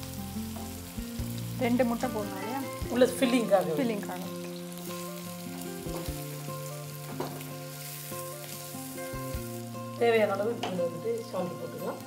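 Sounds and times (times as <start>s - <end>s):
background music: 0.0s - 12.0s
food sizzling in a pan: 0.0s - 12.0s.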